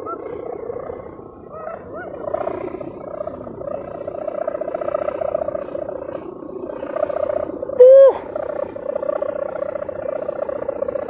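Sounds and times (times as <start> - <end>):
kite hummer buzzing in wind: 0.0 - 11.0.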